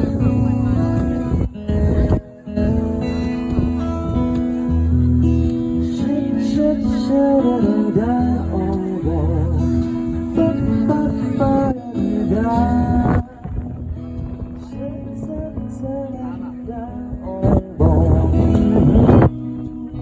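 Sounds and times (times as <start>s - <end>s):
bass guitar: 0.0s - 20.0s
guitar: 0.0s - 20.0s.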